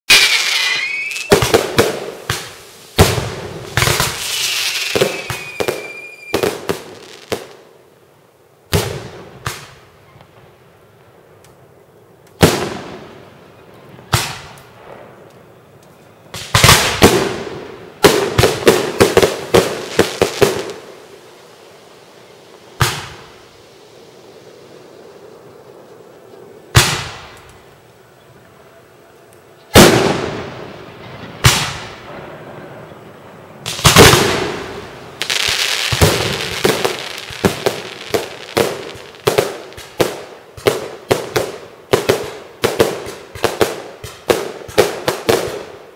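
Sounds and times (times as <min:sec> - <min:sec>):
fireworks bursting with bangs: 0:00.1 - 0:08.0, 0:08.7 - 0:10.6, 0:12.4 - 0:27.8, 0:29.7 - 0:45.9
fireworks crackle: 0:00.1 - 0:45.9.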